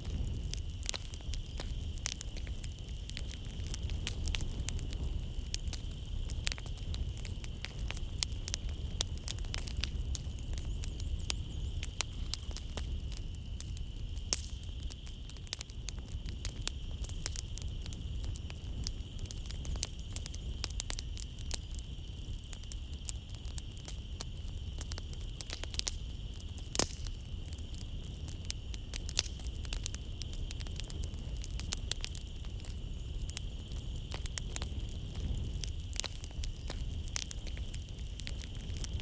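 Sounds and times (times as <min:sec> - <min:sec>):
night insects chirring: 0:00.0 - 0:39.0
wood fire crackling and popping: 0:00.0 - 0:39.0.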